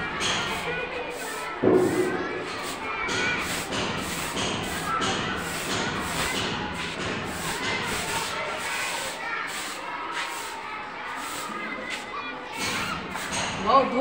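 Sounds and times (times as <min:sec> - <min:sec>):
broom sweeping concrete floor: 0:00.0 - 0:14.0.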